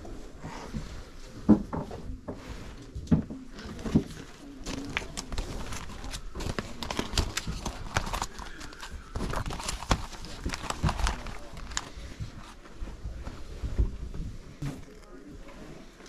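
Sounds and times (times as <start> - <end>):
faint voices: 0.0 - 16.0.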